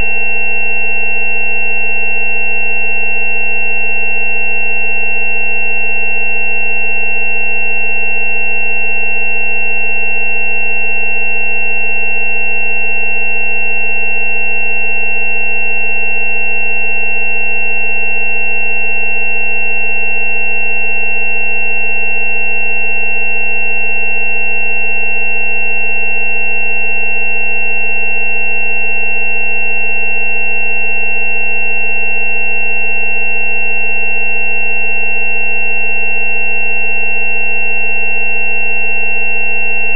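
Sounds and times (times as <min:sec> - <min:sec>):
high steady sine tones: 0:00.0 - 0:39.9.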